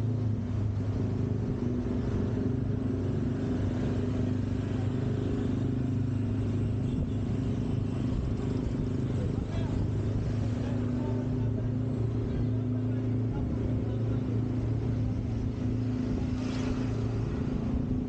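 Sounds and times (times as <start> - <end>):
vehicle engine running steadily: 0.0 - 18.0.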